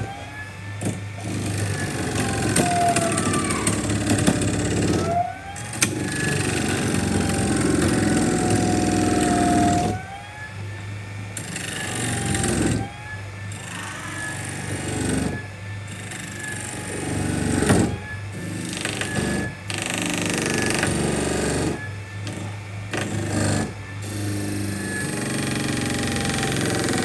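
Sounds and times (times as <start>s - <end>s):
electric power tool motor running: 0.0s - 0.2s, 0.8s - 10.1s, 11.4s - 12.9s, 13.5s - 27.0s.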